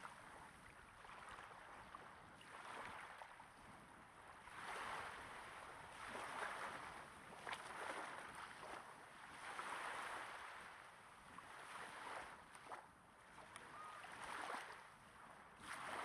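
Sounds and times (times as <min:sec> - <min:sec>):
small waves breaking on sand: 0:00.0 - 0:16.0.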